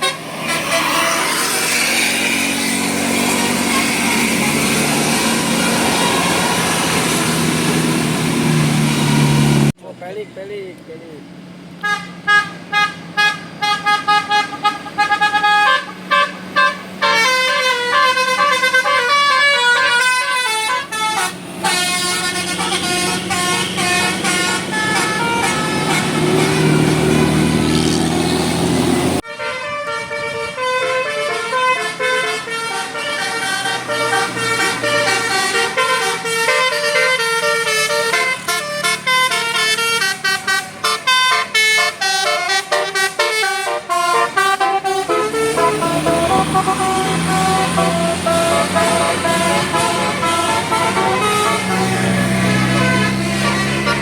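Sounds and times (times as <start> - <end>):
musical air horns playing tunes: 0.0 - 9.7, 11.8 - 28.0, 29.2 - 54.0
bus engine: 0.0 - 54.0.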